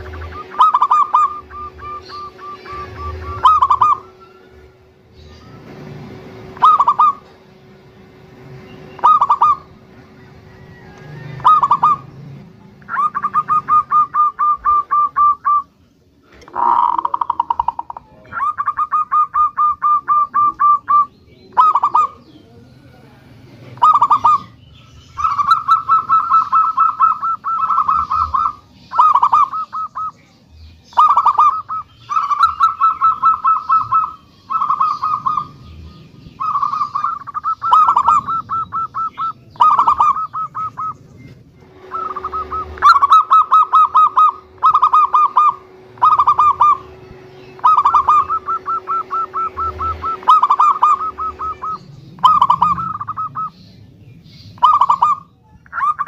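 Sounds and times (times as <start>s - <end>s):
dove cooing in rapid bursts: 0.0s - 5.0s, 6.1s - 7.4s, 8.9s - 15.7s, 16.3s - 30.1s, 30.9s - 41.0s, 41.7s - 53.5s, 54.6s - 56.0s.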